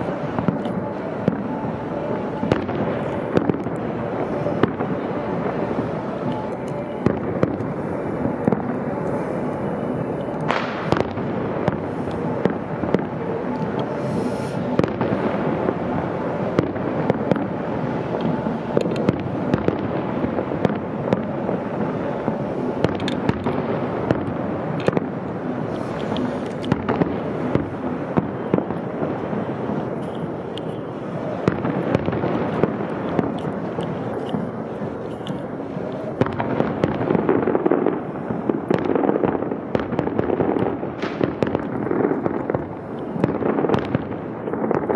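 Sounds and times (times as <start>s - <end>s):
fireworks crackling: 0.0s - 44.9s
sharp firework bangs: 0.0s - 44.9s.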